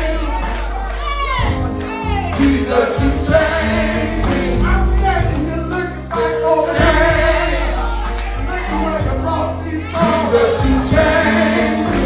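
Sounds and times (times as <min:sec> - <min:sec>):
band with steady percussion: 0:00.0 - 0:12.0
choir singing: 0:00.0 - 0:12.0.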